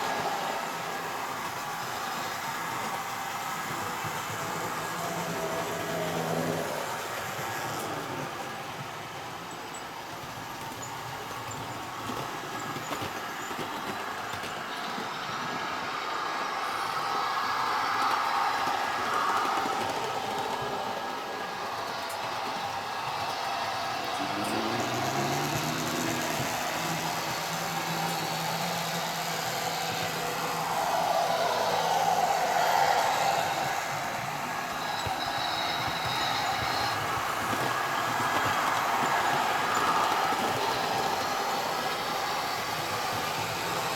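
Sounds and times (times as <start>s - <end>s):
model train rumbling on track: 0.0s - 43.9s.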